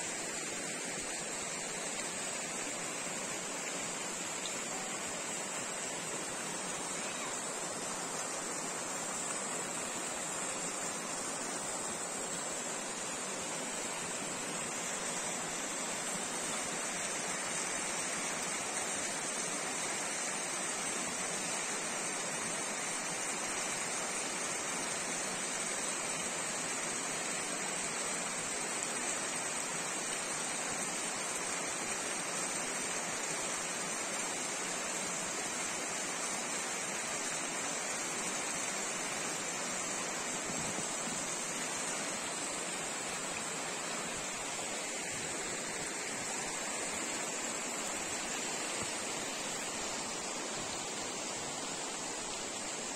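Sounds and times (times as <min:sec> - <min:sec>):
stream rushing: 0:00.0 - 0:52.9.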